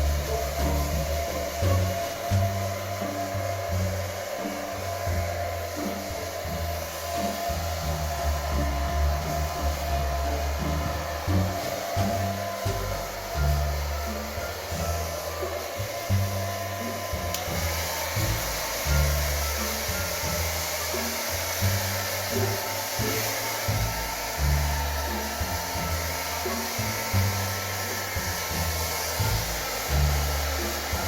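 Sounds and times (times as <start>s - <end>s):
background music with bass line: 0.0s - 31.0s
hair dryer blowing: 0.0s - 31.0s.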